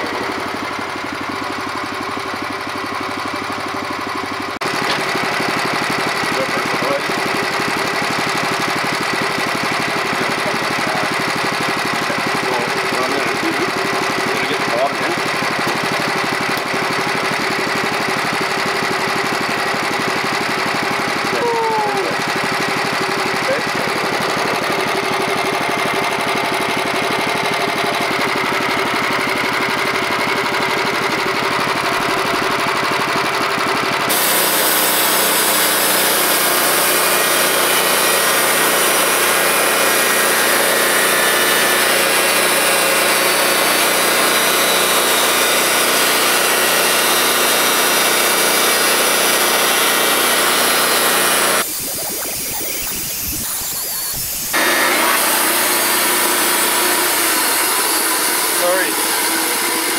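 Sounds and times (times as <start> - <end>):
band saw cutting log: 0.0 - 30.8, 34.1 - 59.9
gas engine running: 0.0 - 59.9.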